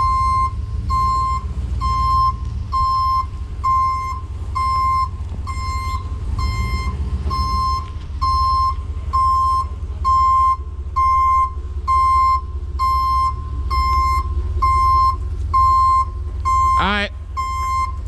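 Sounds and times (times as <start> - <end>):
truck engine rumble: 0.0 - 18.0
truck reversing alarm beeping: 0.0 - 18.0.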